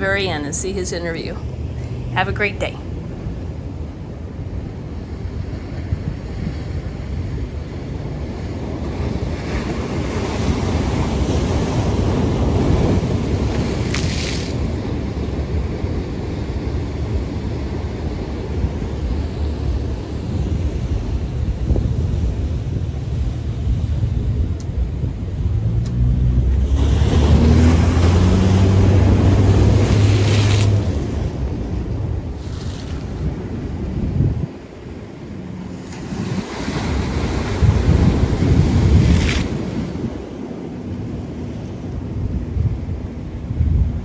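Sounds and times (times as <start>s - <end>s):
surf washing over rocks: 0.0s - 25.4s, 26.2s - 44.0s
wind rumble on microphone: 0.0s - 44.0s.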